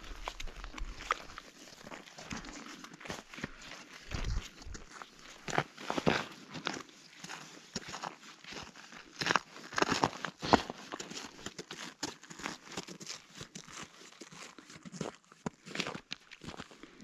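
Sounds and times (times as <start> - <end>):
crunching and scraping on snow: 0.0 - 17.0.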